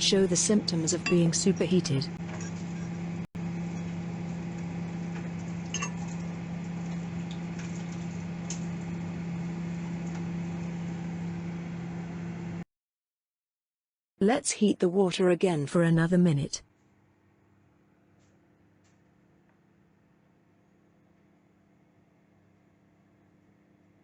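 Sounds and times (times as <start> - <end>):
microwave oven humming: 0.0 - 12.7, 16.6 - 24.0.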